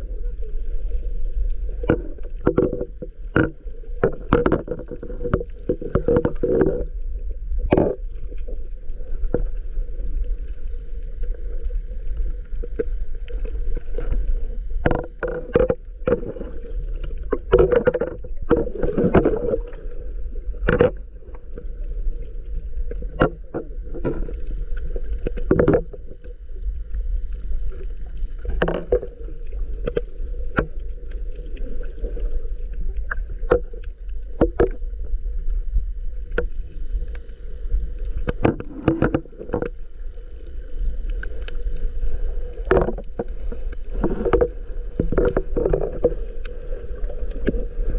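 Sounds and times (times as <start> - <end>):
low underwater rumble: 0.0 - 47.9.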